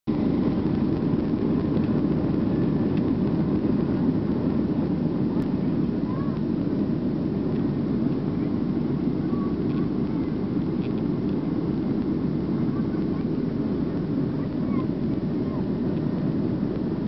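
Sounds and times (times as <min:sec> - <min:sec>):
airplane rolling noise: 0:00.1 - 0:17.0
jet engines rumbling: 0:00.1 - 0:17.0.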